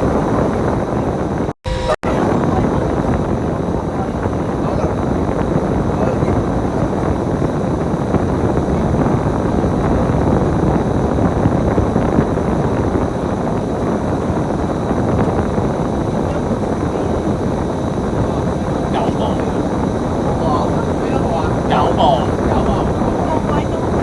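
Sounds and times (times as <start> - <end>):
bus engine and road noise: 2.1 - 24.0.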